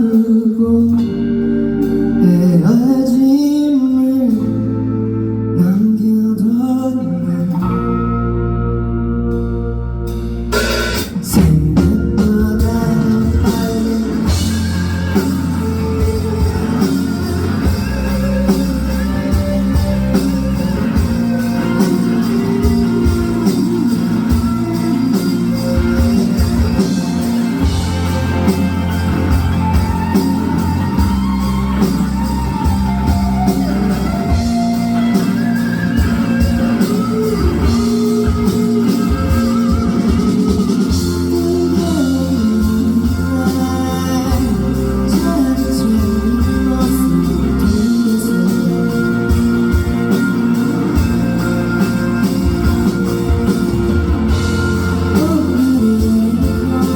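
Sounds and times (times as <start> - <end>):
person singing: 0.0 - 8.0, 11.0 - 56.9
live rock band playing: 0.0 - 56.9.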